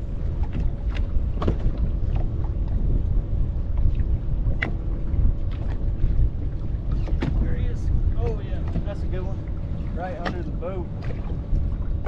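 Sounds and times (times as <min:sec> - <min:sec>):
waves slapping against boat hull: 0:00.0 - 0:12.0
wind buffeting microphone: 0:00.0 - 0:12.0.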